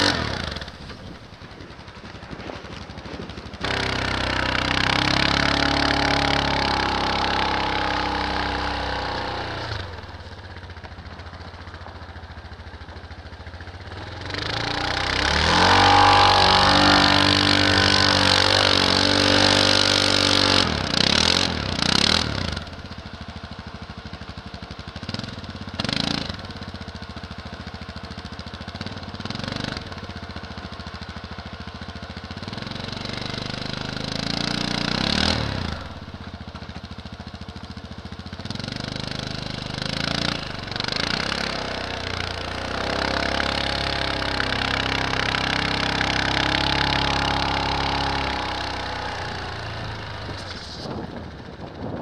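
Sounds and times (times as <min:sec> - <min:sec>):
utility vehicle engine revving: 0:00.0 - 0:23.2, 0:25.0 - 0:26.6, 0:28.4 - 0:31.0, 0:32.3 - 0:36.8, 0:37.6 - 0:52.0.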